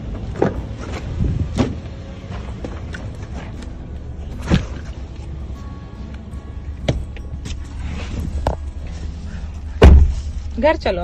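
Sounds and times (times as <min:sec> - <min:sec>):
car engine idling: 0:02.2 - 0:11.0.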